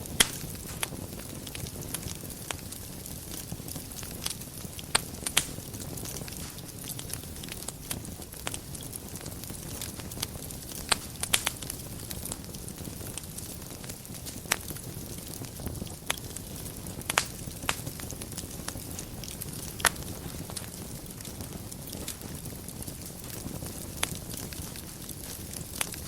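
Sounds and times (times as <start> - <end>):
fire crackles and pops: 0.0 - 26.0
fire rumble and hiss: 0.0 - 26.0.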